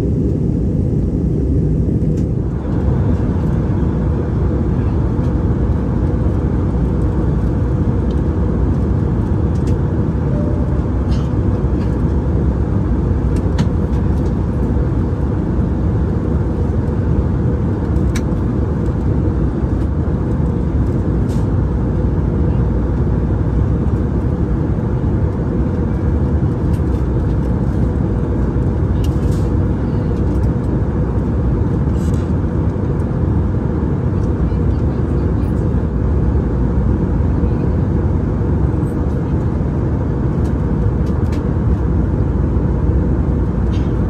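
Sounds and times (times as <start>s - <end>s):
airliner cabin engine roar: 0.0s - 44.0s.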